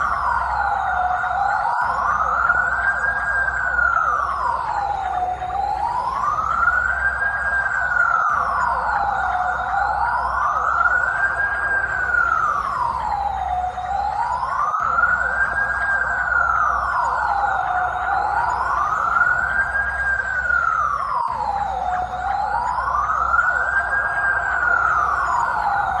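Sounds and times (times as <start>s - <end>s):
police siren wailing: 0.0s - 26.0s.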